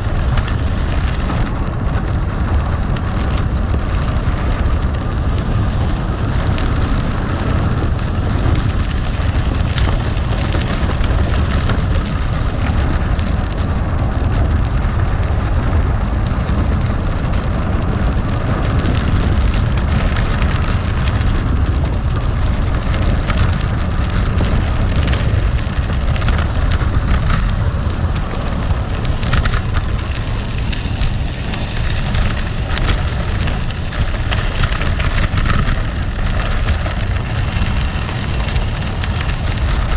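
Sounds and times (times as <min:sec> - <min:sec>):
bike tyres crunching on gravel: 0:00.0 - 0:39.9.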